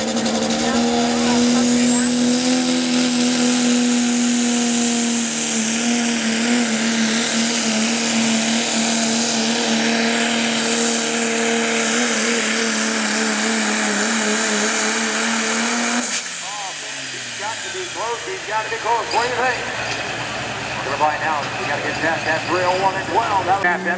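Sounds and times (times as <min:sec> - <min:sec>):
diesel truck engine at full throttle: 0:00.0 - 0:23.9.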